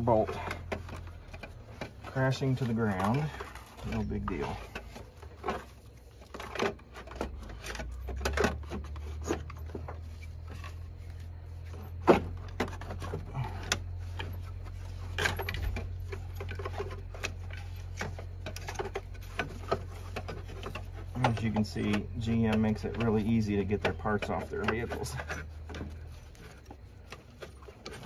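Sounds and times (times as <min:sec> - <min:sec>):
metal clunks and scrapes: 0:00.0 - 0:28.0.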